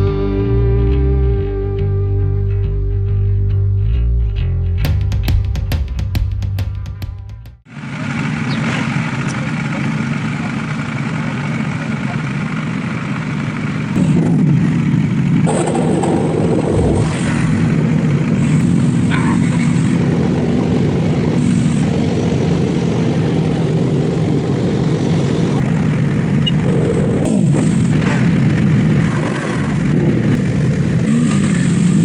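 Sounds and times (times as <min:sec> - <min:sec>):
motorcycles running: 0:04.9 - 0:32.0.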